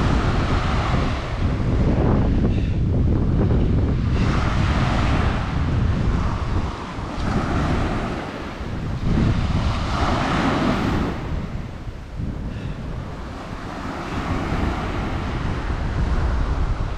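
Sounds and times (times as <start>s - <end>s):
ocean surf breaking: 0.0s - 16.9s.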